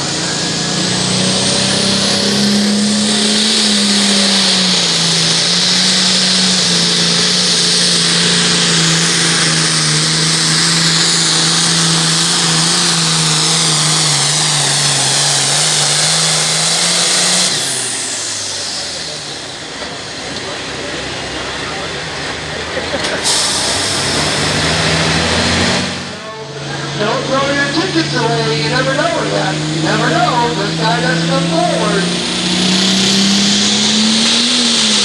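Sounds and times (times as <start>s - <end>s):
diesel tractor engine running flat out: 0.0s - 35.0s.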